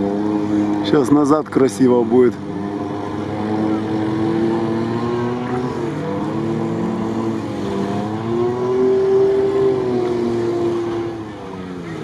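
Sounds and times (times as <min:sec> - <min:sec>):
off-road vehicle engine under load: 0:00.0 - 0:12.0
vehicle wading through water: 0:00.0 - 0:12.0.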